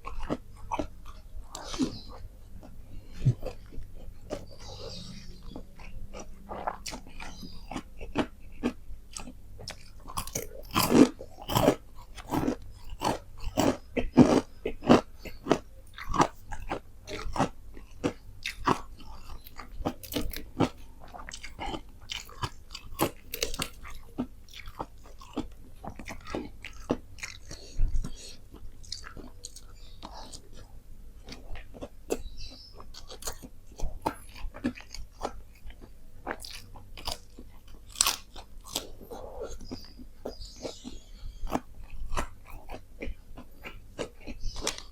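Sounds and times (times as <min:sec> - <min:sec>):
chewing crispy fried chicken: 0:00.0 - 0:44.9.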